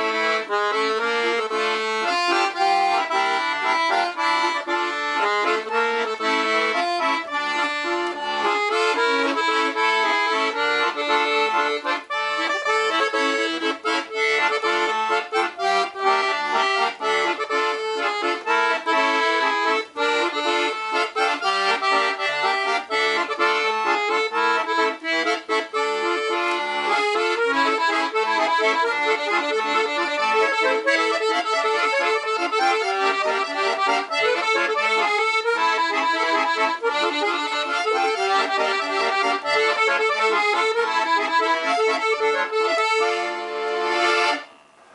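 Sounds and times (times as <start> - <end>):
accordion playing a tune: 0.0 - 44.9.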